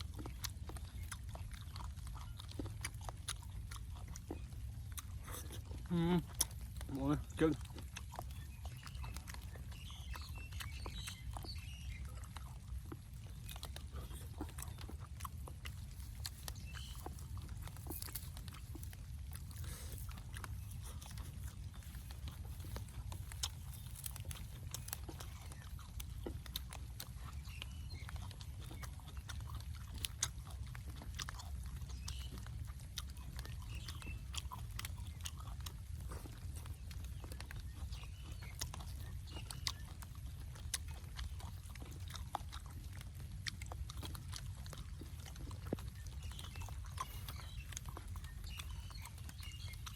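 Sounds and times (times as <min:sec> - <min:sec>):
person chewing and smacking: 0:00.0 - 0:49.9.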